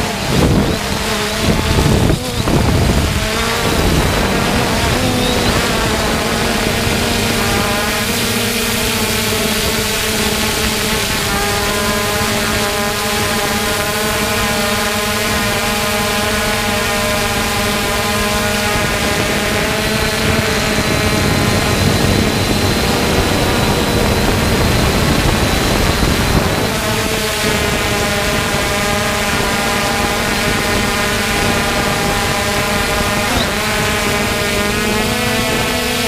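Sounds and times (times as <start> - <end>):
rush of air noise: 0.0 - 14.5, 15.3 - 36.0
drone motors whining: 0.0 - 36.0.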